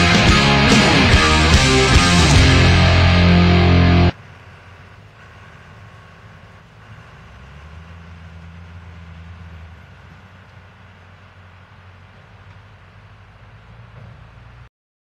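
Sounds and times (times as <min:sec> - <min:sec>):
diesel engine running: 0:00.0 - 0:14.7.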